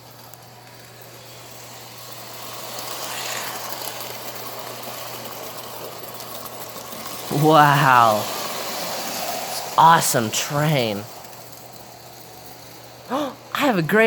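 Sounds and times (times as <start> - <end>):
wheel and track rumble: 0.0 - 9.8, 11.1 - 14.0
toy train motor hum: 0.0 - 14.0.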